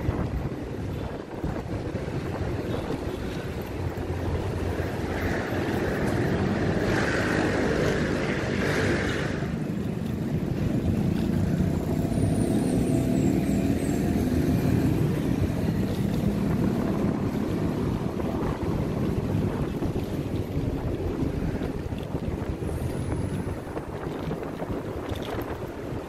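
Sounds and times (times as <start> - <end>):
engine hum: 0.0 - 26.0
street traffic rush: 0.0 - 26.0.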